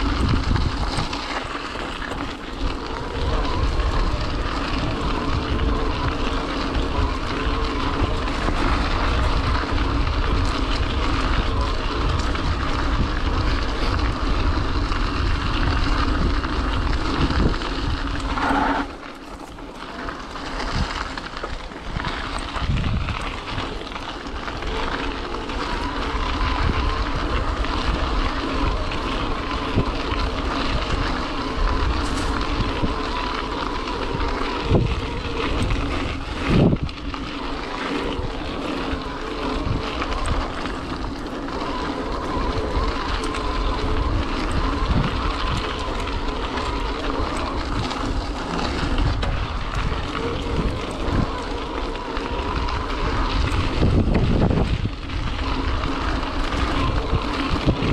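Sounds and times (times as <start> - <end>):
faint electric motor whine: 0.0 - 57.9
tyres rolling on dirt trail: 0.0 - 57.9
wind buffeting microphone: 0.0 - 57.9.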